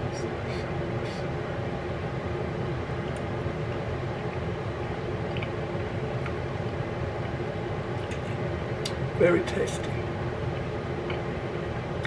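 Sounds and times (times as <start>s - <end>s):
appliance humming with whine: 0.0s - 12.0s.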